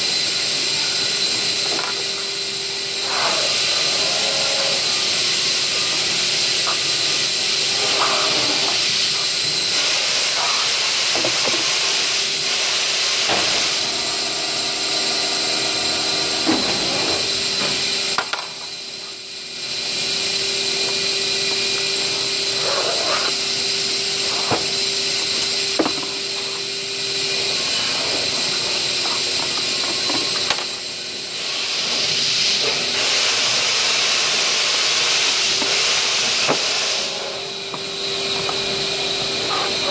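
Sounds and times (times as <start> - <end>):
factory machinery hiss: 0.0 - 39.9.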